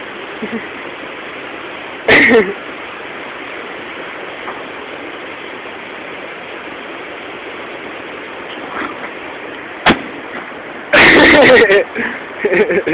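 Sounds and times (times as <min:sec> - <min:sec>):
outdoor background hiss: 0:00.0 - 0:12.9.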